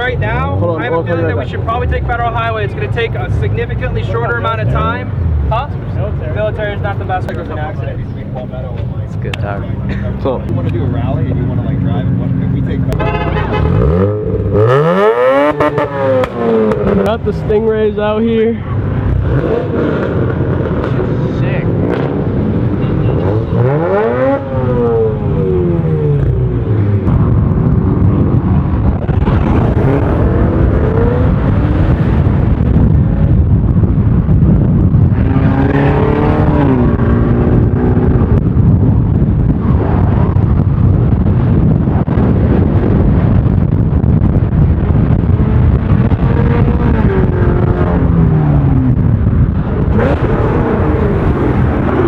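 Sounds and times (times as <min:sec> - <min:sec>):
car engines revving: 0:00.0 - 0:52.0
road and wind noise: 0:00.0 - 0:52.0.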